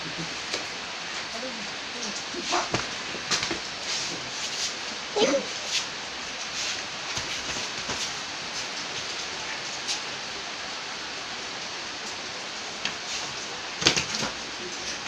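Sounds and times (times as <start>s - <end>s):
faint rain taps: 0.0s - 10.5s, 11.5s - 15.0s
steady rain falling: 0.0s - 15.0s.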